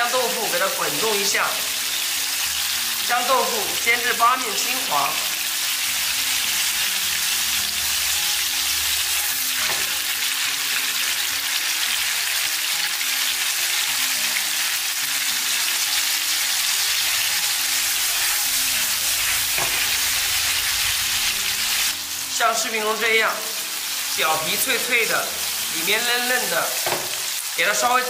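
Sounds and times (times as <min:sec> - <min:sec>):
tofu sizzling in hot oil: 0:00.0 - 0:28.0.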